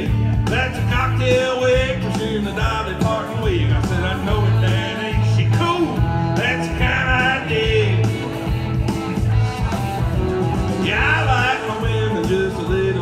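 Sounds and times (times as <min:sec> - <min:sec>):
man singing into microphone: 0:00.0 - 0:08.4, 0:10.8 - 0:13.0
backing track with bass and drums: 0:00.0 - 0:13.0.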